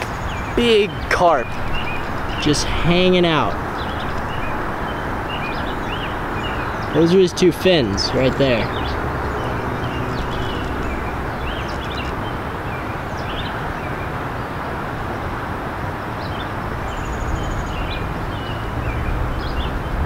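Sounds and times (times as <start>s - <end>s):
small birds chirping: 0.0s - 15.2s, 16.0s - 20.0s
outdoor rumble and hiss: 0.0s - 20.0s.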